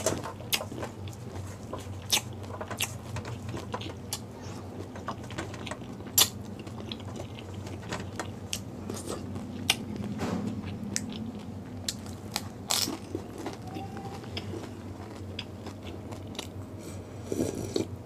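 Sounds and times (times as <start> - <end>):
chewing and crunching: 0.0 - 18.0
steady low hum: 0.0 - 18.0.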